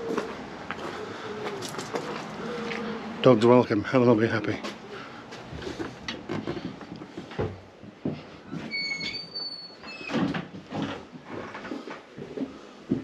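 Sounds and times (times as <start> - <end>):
footsteps: 0.0 - 3.0, 4.4 - 9.5, 10.5 - 13.0.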